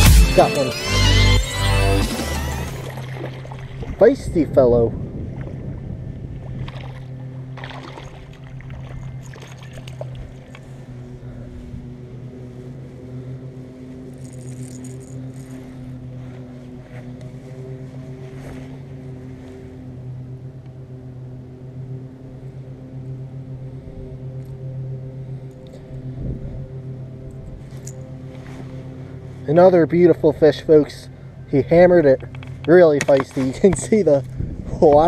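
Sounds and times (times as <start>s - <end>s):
low motor hum: 0.0s - 35.0s.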